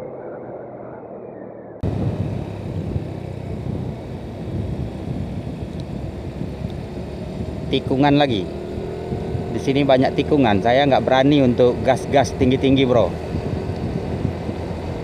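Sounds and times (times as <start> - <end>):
wind rumble: 0.0 - 15.0
motorcycle road noise: 1.8 - 15.0.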